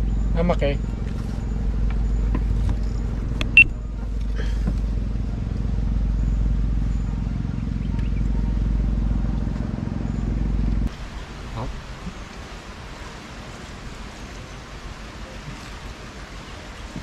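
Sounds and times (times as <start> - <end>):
motor engine rumbling: 0.0 - 17.0
water: 0.0 - 17.0.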